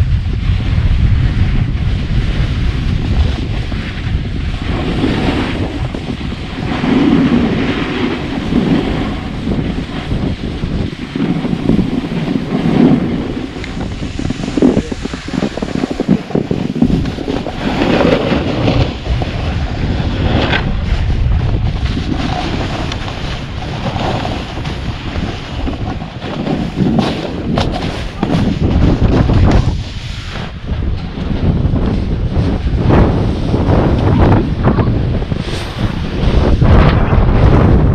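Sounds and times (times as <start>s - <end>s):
wind buffeting microphone: 0.0s - 37.9s
snowboard edge scraping snow: 0.1s - 37.9s.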